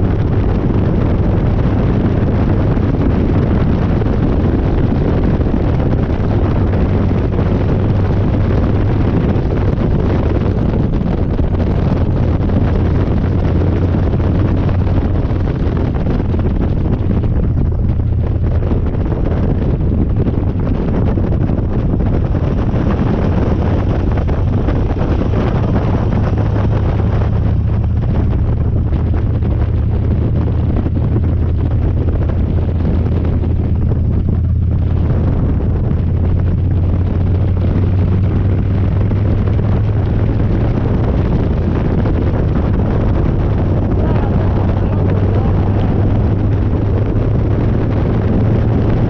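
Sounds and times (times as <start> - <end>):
motorcycle engine running: 0.0 - 49.0
wind noise on microphone: 0.0 - 49.0.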